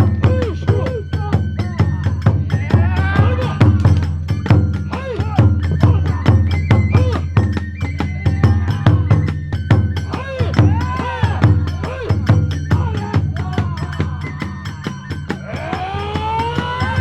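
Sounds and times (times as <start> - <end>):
bamboo flute high notes: 0.0 - 17.0
hand cymbals: 0.0 - 17.0
taiko drum beating: 0.0 - 17.0.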